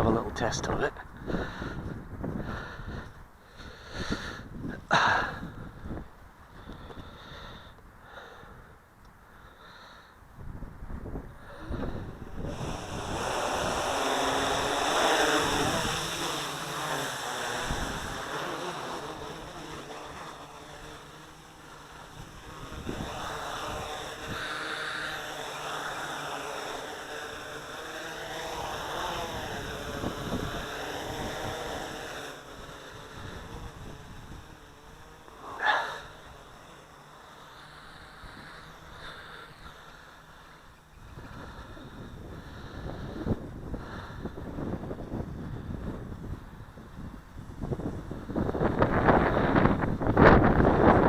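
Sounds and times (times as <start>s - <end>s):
wind buffeting microphone: 0.0s - 7.6s, 10.3s - 36.5s, 41.0s - 51.0s
quadcopter motors whining: 0.0s - 51.0s.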